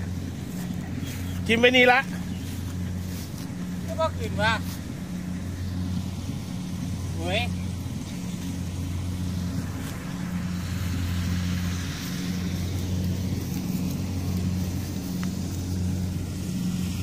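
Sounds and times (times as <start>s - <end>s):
pickup truck engine running: 0.0s - 17.0s.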